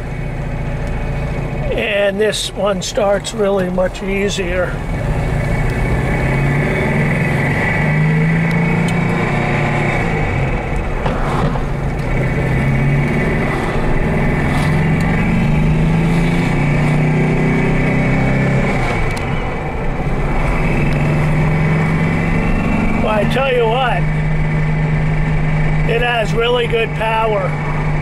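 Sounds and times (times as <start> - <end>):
car engine accelerating: 0.0 - 28.0
road noise: 0.0 - 28.0.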